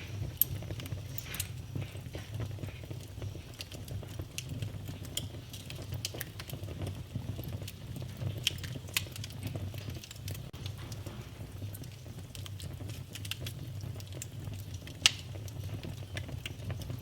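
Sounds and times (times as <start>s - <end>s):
fire crackles and snaps: 0.0s - 17.0s
fire flames rumbling: 0.0s - 17.0s
sharp fire pops: 0.0s - 17.0s.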